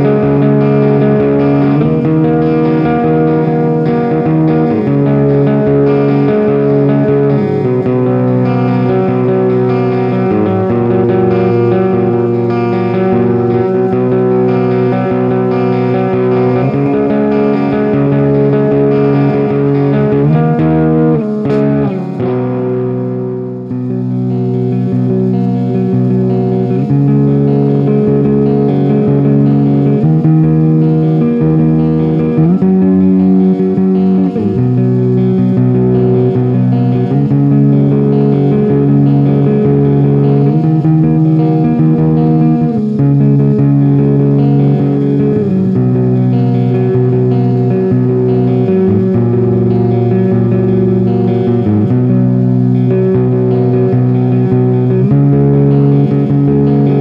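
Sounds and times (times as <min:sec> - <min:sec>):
clean electric guitar chords: 0:00.0 - 0:57.0
guitar pitch slide: 0:00.0 - 0:57.0.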